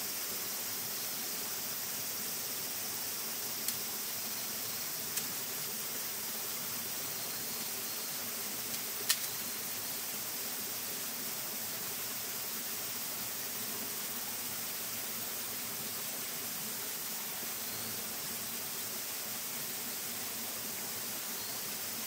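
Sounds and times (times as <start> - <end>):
steady high-pitched hiss: 0.0 - 22.0.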